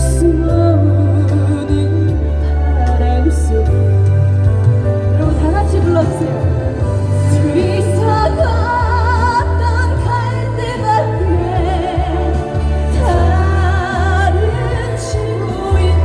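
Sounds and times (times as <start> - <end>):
woman singing with vibrato: 0.0 - 4.5, 5.1 - 16.0
backing track with heavy bass: 0.0 - 16.0.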